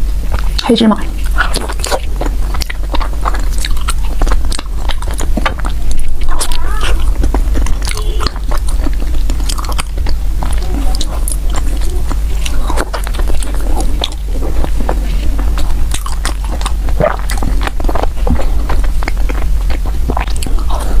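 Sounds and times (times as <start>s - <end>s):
low hum: 0.0s - 21.0s
person chewing bread: 0.0s - 21.0s
wet mouth clicks and smacks: 0.3s - 21.0s.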